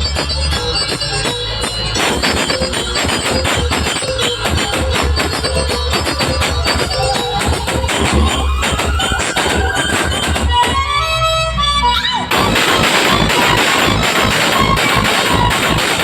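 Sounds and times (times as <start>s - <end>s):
loud dance music: 0.0s - 11.0s, 12.2s - 16.0s.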